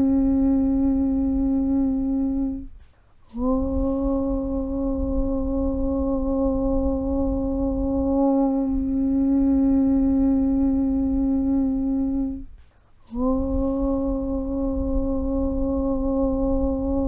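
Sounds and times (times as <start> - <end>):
deep hummed om drone: 0.0 - 17.0.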